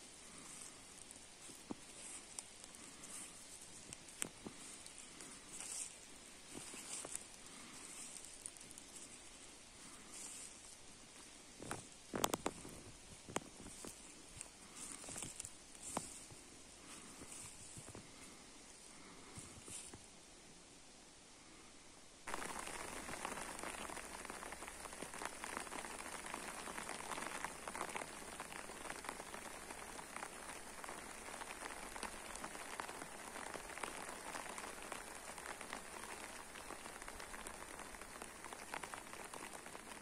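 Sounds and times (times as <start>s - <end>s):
rain falling: 0.0s - 18.6s, 22.3s - 40.0s.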